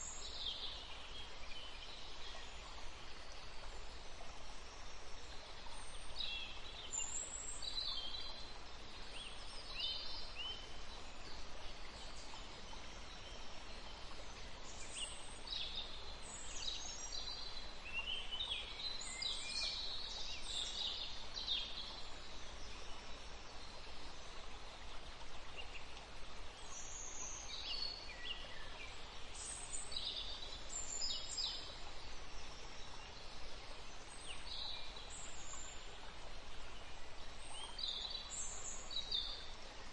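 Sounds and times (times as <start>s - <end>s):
soft nature ambience hiss: 0.0s - 39.9s.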